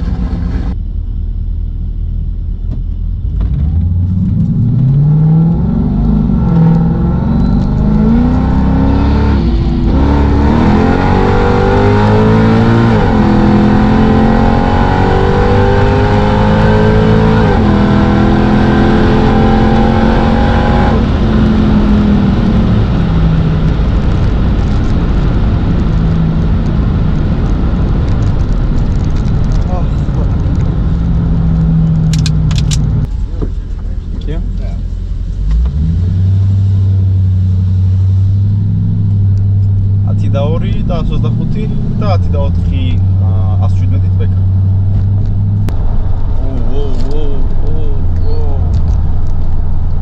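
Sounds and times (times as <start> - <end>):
car engine accelerating: 0.0 - 50.0.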